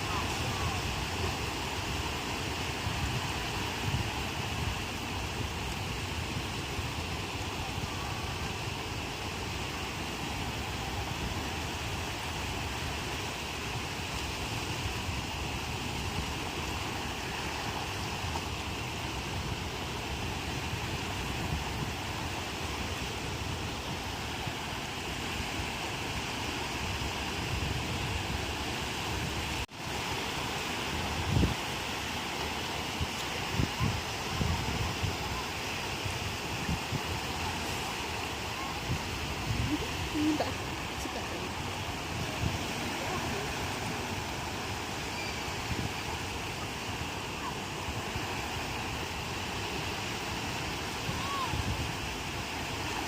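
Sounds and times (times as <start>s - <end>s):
ocean surf breaking: 0.0s - 53.0s
wind rumble on microphone: 0.0s - 53.0s.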